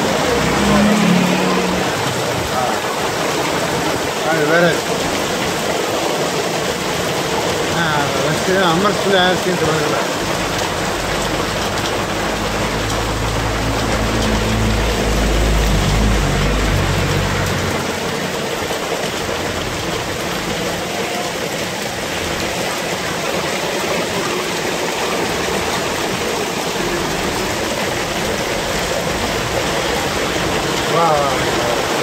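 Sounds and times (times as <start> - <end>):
hail and rain pelting street: 0.0 - 32.0
vehicle engine rumbling: 0.0 - 32.0.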